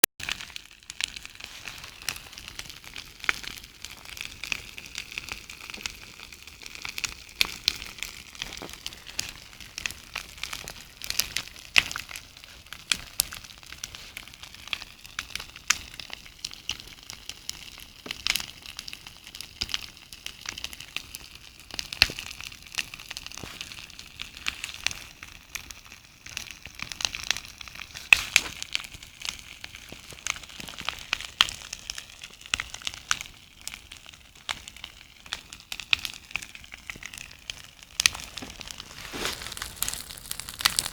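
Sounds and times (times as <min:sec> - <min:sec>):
burning wood crackling and popping: 0:00.2 - 0:40.9
campfire hissing: 0:00.3 - 0:40.9.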